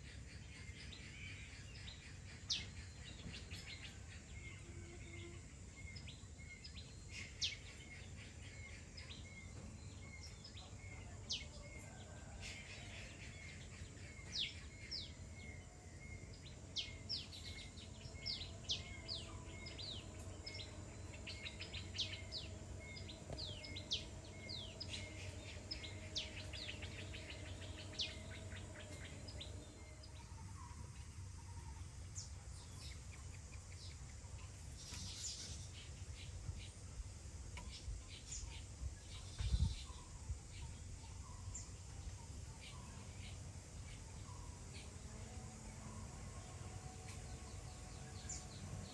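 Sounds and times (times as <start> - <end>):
birds chirping: 0.0 - 48.9
low background rumble: 0.0 - 48.9.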